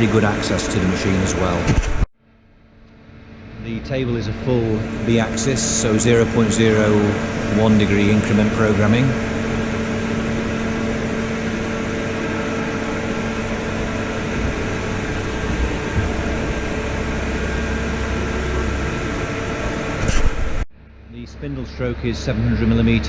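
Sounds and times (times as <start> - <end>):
boring mill humming: 0.0 - 23.0
low rumble: 3.2 - 23.0.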